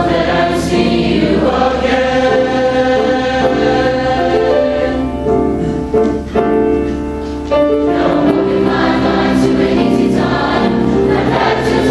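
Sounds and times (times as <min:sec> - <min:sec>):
voices singing in harmony: 0:00.0 - 0:05.5, 0:07.8 - 0:11.9.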